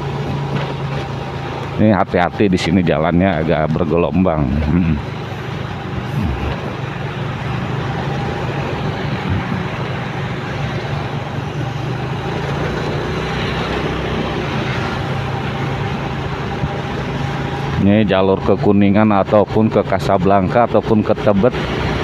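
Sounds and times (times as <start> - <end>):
motorcycle engine hum: 0.0 - 22.0
passing city traffic: 0.0 - 22.0
wind and road noise: 0.0 - 22.0.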